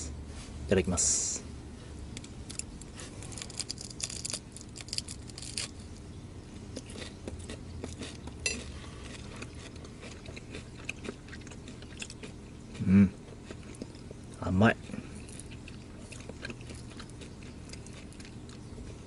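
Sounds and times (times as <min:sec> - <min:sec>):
person chewing crunchy food: 0:02.2 - 0:19.0.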